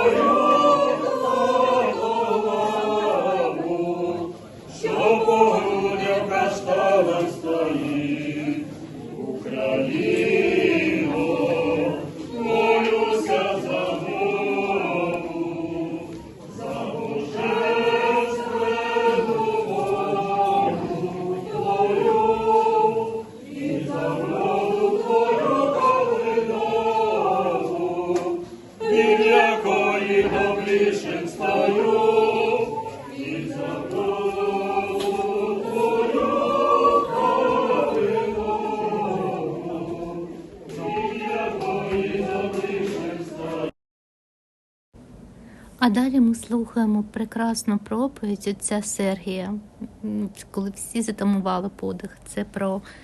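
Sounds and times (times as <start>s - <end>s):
choir singing a cappella chant: 0.0s - 43.8s.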